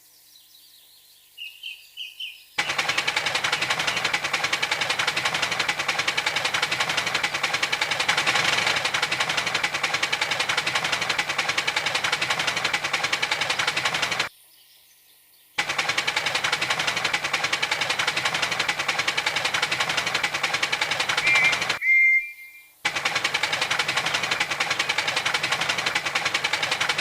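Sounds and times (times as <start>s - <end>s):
steam locomotive chuffing: 2.6s - 14.3s, 15.6s - 21.8s, 22.8s - 27.0s.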